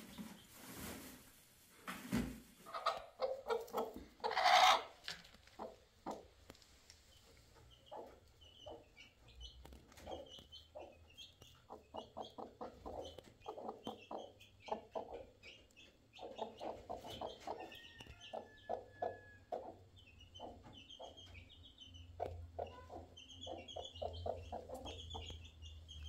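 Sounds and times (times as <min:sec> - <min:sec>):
hen clucking: 0:02.6 - 0:26.0.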